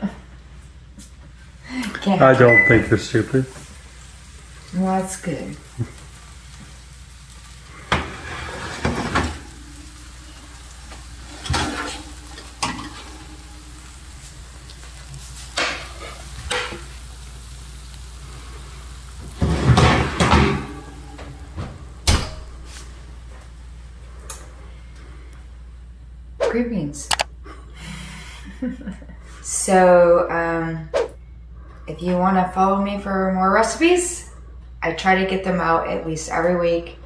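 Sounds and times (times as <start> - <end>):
light sizzle: 0.0 - 30.7.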